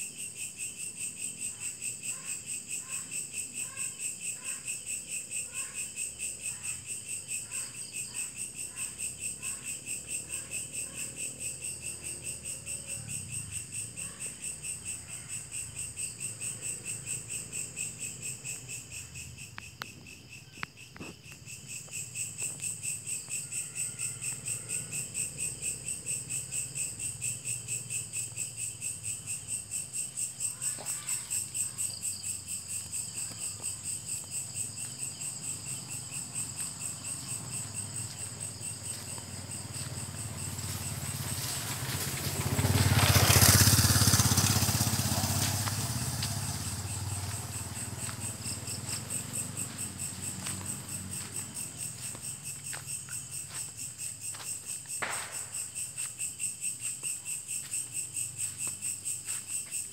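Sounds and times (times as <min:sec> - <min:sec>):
crickets and insects trilling: 0:00.0 - 0:59.9.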